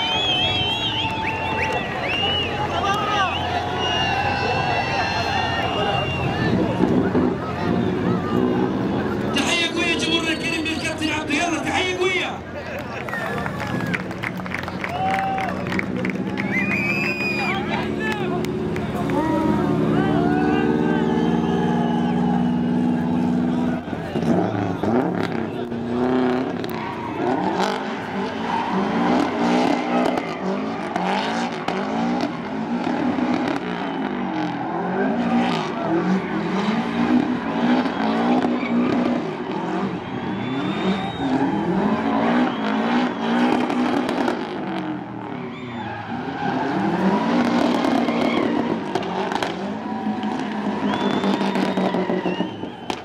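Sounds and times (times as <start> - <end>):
car engine revving: 0.0 - 53.0
tyres squealing and skidding: 0.0 - 53.0.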